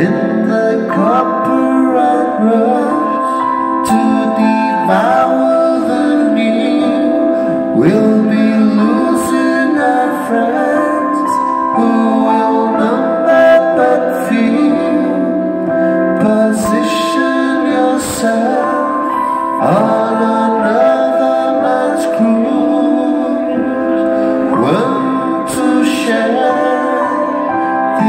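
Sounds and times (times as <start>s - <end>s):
man singing into microphone: 0.0s - 28.0s.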